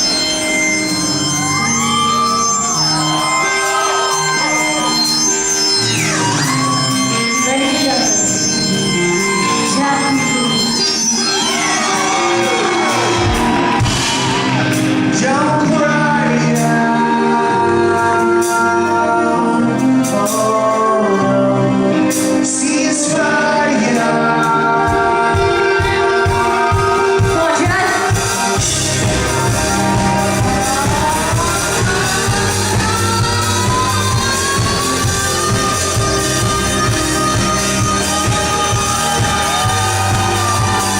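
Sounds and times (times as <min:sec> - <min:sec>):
live rock band playing: 0:00.0 - 0:40.9
person singing: 0:00.0 - 0:40.9.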